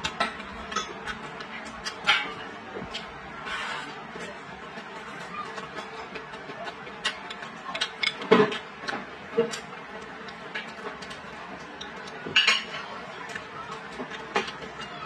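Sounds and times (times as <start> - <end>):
person chewing food: 0.0 - 12.3, 12.9 - 14.9.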